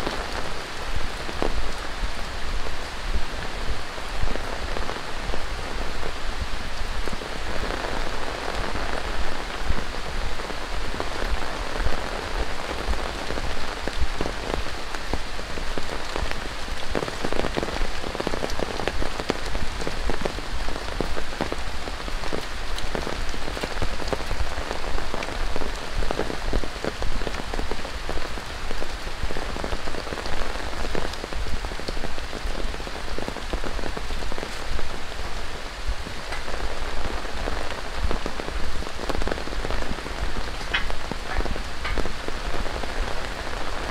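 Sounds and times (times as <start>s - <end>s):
raindrops ticking on hard surfaces: 0.0s - 43.9s
steady rain falling: 0.0s - 43.9s.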